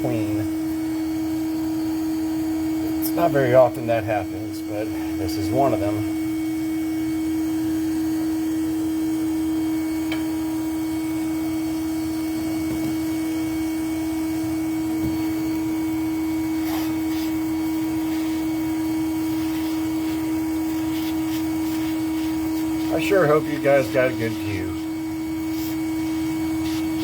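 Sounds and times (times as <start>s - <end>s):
electric motor hum: 0.0s - 27.0s.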